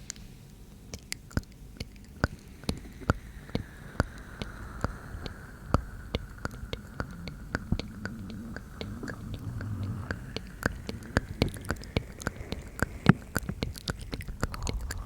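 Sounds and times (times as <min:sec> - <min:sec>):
soft breathing: 0:00.0 - 0:15.0
wet lip and tongue clicks: 0:00.0 - 0:15.0.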